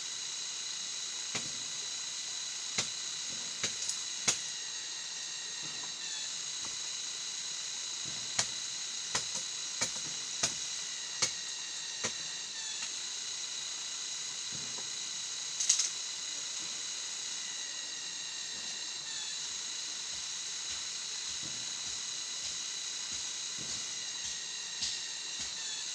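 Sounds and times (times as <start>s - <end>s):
insects droning: 0.0s - 25.9s.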